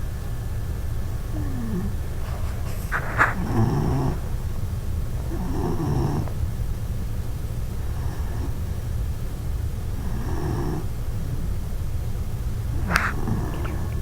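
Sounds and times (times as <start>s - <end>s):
puppy snoring: 0.0s - 14.0s
steady low rumble: 0.0s - 14.0s.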